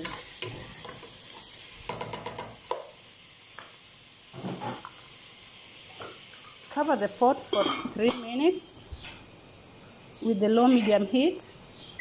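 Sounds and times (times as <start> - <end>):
chicken sizzling in oil: 0.0 - 10.6.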